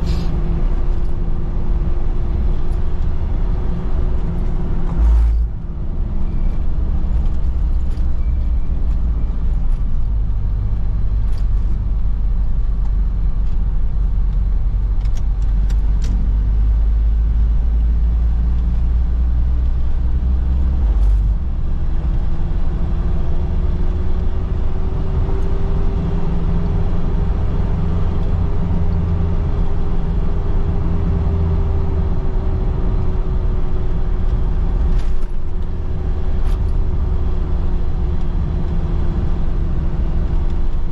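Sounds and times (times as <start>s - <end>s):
faint engine hum: 0.0s - 40.9s
road vehicle rumble: 0.0s - 40.9s.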